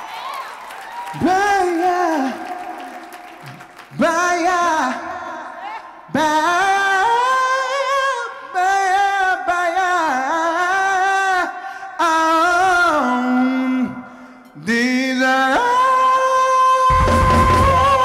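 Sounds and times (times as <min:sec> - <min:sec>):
person singing a cappella: 0:01.1 - 0:18.0.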